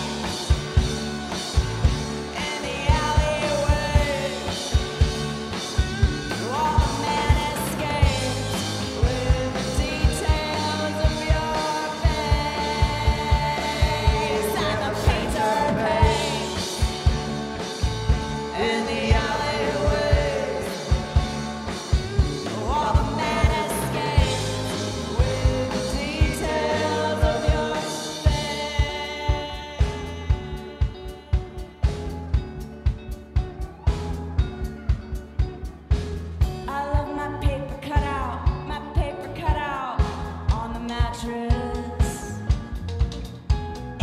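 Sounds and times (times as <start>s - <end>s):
drum kit steady beat: 0.0s - 37.2s, 39.6s - 44.0s
gliding lead guitar lines: 0.0s - 39.2s.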